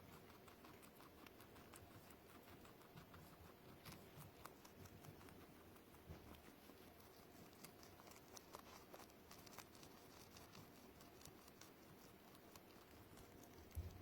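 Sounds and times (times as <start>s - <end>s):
small pet chewing food: 0.0s - 14.0s.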